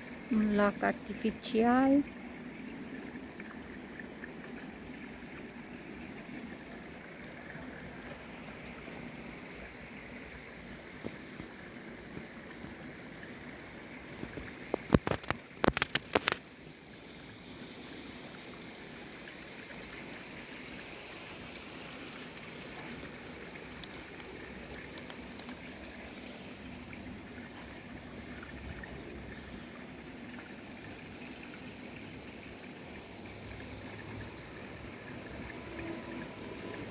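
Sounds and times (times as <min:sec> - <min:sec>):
waterfall splashing into pond: 0:00.0 - 0:36.9.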